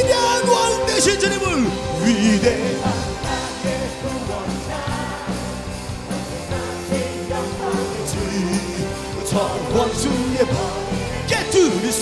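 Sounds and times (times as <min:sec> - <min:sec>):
live band playing upbeat song: 0:00.0 - 0:12.0
voices singing along: 0:00.0 - 0:12.0.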